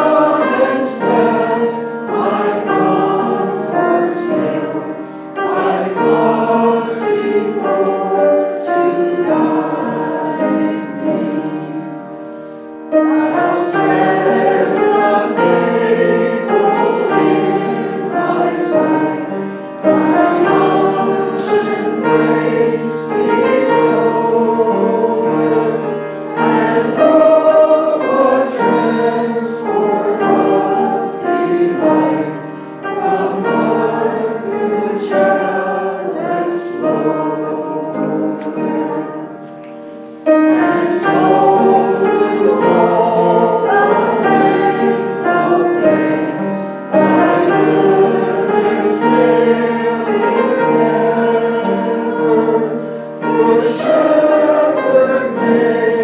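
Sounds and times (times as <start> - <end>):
group singing a hymn: 0.0 - 56.0.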